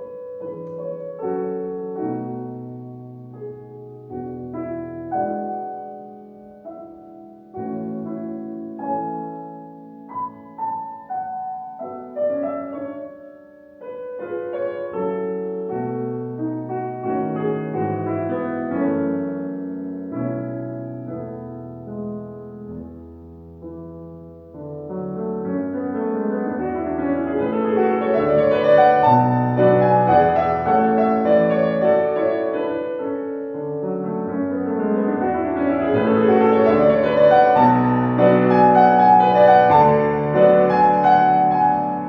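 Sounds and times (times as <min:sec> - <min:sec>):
piano chords: 0:00.0 - 0:42.0.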